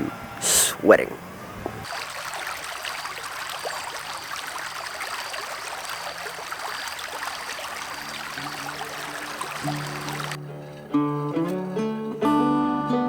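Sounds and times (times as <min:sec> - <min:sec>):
river water babbling over rocks: 0:01.8 - 0:12.7.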